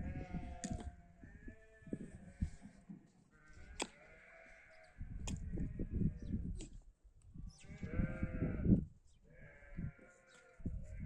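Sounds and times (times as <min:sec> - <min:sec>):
sheep bleating: 0:00.0 - 0:02.6, 0:03.3 - 0:06.3, 0:07.5 - 0:11.0.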